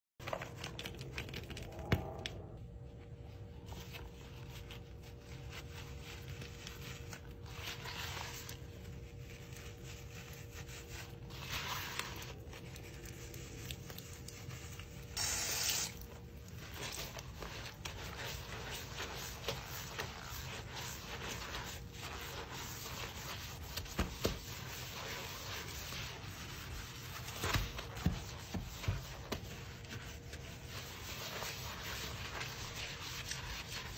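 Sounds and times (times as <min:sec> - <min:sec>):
sponge scrubbing a sink: 0:00.2 - 0:33.9.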